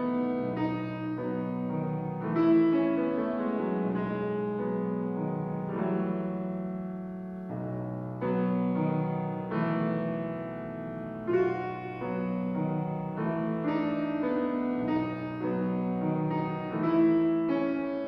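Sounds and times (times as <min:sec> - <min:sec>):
grand piano chords: 0:00.0 - 0:18.0.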